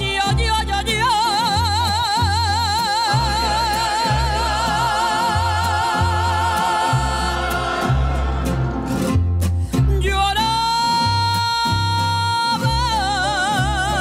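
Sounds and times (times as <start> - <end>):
mariachi band playing: 0.0 - 14.0
plucked bass line: 0.0 - 14.0.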